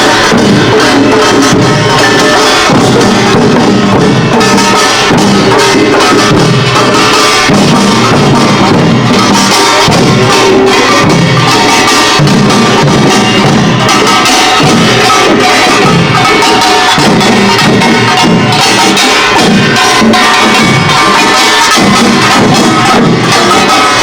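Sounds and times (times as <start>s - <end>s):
drum strokes: 0.0s - 24.0s
small gongs clanging: 0.0s - 24.0s.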